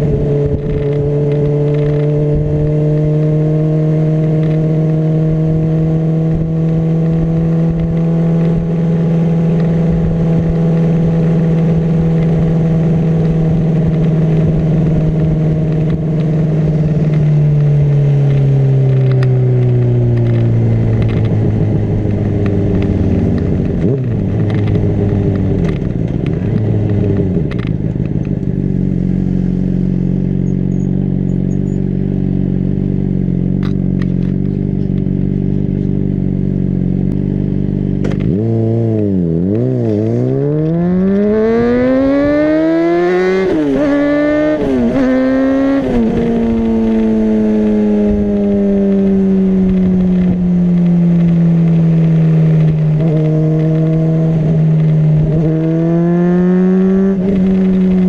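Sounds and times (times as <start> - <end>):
motorcycle gear upshifts: 0.0 - 29.0, 33.5 - 58.0
motorcycle engine revving: 0.0 - 58.0.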